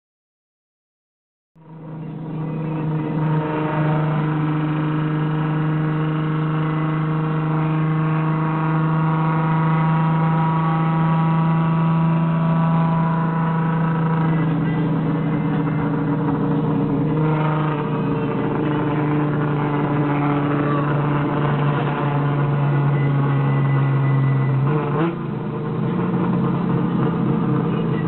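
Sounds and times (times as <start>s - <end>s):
car engine rumbling: 1.6s - 28.0s.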